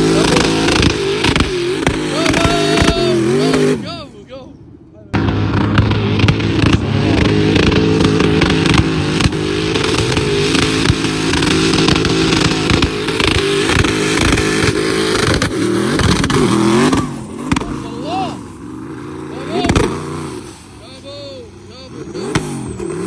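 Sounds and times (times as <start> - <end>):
engine running at high revs: 0.0 - 4.1, 5.1 - 23.0.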